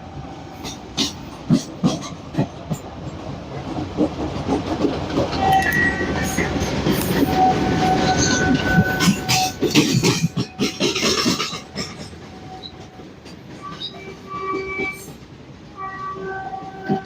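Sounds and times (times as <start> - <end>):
train wheels clattering: 0.6 - 17.0.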